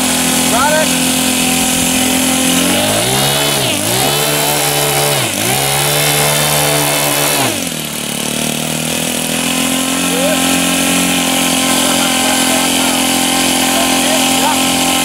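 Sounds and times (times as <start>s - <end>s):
model airplane engine revving: 0.0s - 15.0s.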